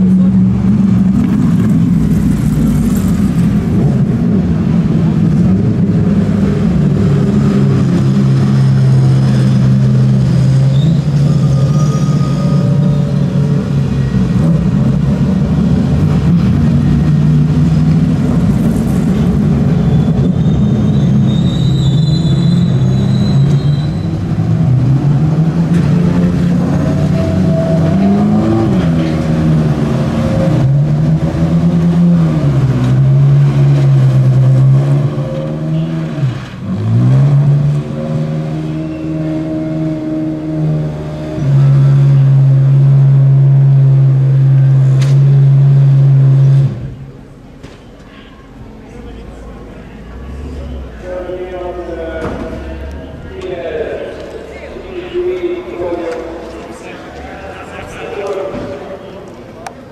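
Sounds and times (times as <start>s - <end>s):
race car engines at low revs: 0.0s - 59.9s.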